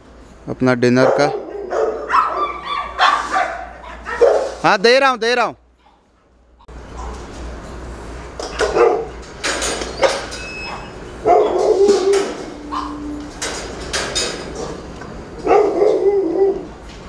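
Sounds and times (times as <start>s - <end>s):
dogs barking and whining: 0.9s - 4.6s, 5.8s - 7.3s, 8.4s - 16.9s.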